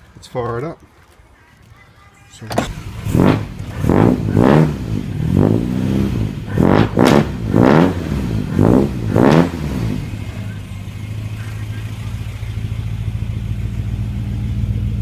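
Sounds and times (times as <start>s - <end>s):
car engine revving and idling: 2.5s - 15.0s.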